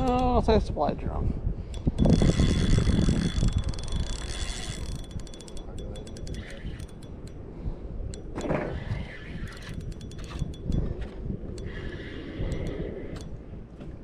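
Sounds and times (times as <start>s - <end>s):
wind on microphone: 0.0s - 14.0s
fishing reel whirring and clicking: 1.6s - 13.4s.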